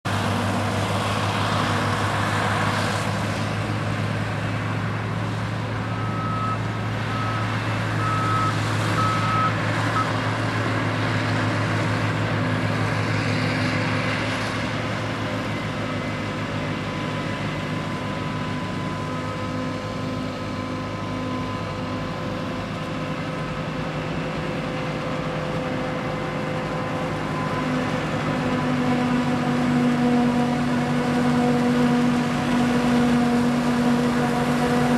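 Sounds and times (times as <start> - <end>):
tractor engine drone: 0.0 - 34.9.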